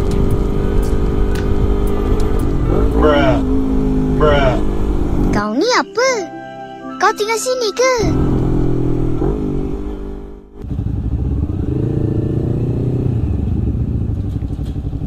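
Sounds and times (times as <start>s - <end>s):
motorcycle engine at low revs: 0.0s - 5.4s, 8.2s - 15.0s
scooter engine running: 0.0s - 5.4s, 8.1s - 15.0s.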